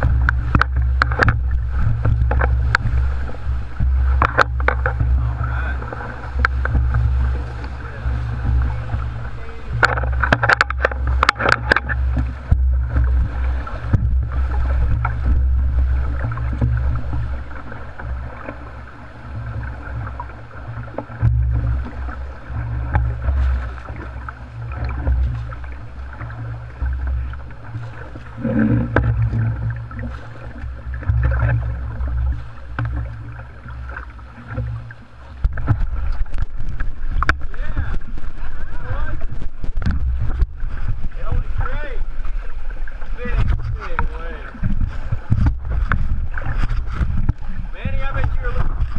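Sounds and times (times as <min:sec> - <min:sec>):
deep rumble: 0:00.0 - 0:48.9
sharp splashes: 0:00.0 - 0:48.9
waves slapping boat hull: 0:00.0 - 0:48.9
whitewater rushing and crashing: 0:00.0 - 0:48.9.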